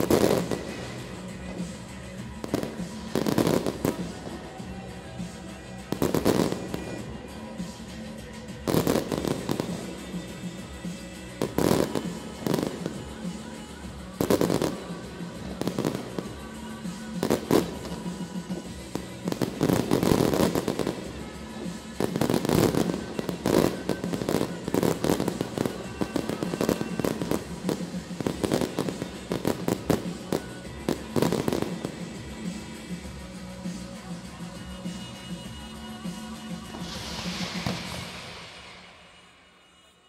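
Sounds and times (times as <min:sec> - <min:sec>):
fireworks bangs and crackling: 0:00.0 - 0:39.3
music playing: 0:00.0 - 0:40.0.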